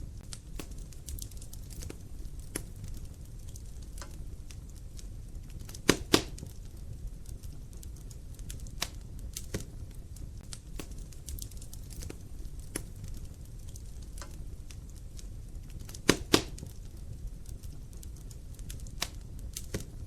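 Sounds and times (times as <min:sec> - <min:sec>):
low rumble of burning logs: 0:00.0 - 0:20.0
wood fire crackling: 0:00.0 - 0:20.0.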